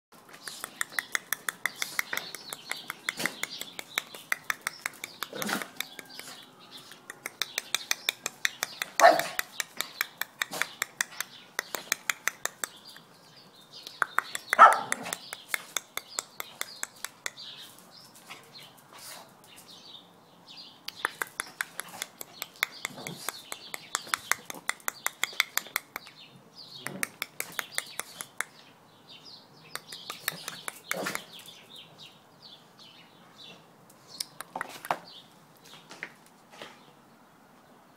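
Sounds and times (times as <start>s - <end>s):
dog claws clicking on concrete: 0.2s - 18.4s, 20.9s - 28.6s, 29.7s - 31.8s, 33.9s - 36.8s.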